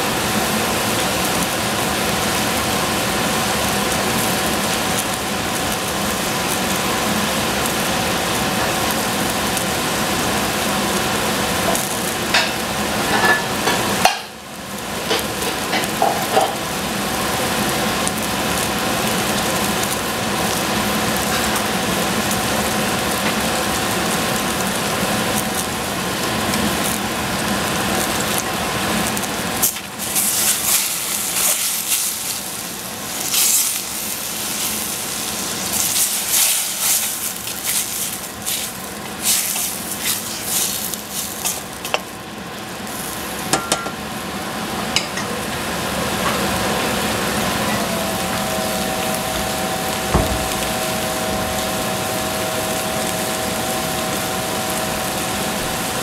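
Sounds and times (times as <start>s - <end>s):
food sizzling in a saucepan: 0.0s - 56.0s.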